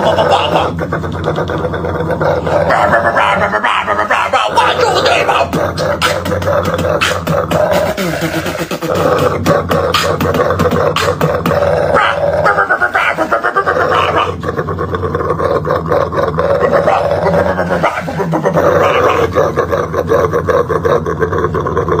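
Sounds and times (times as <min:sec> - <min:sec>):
dog snarling and growling: 0:00.0 - 0:22.0
man making fast bop vocal noise: 0:00.0 - 0:22.0.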